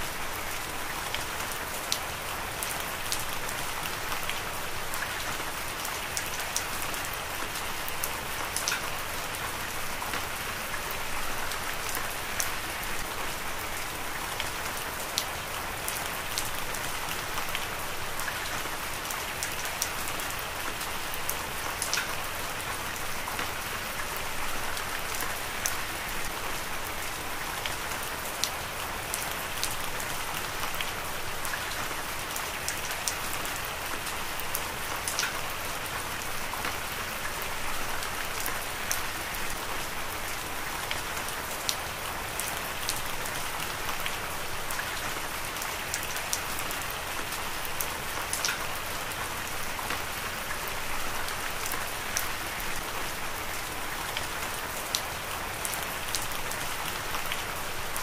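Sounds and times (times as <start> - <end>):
raindrops ticking nearby: 0.1 - 58.0.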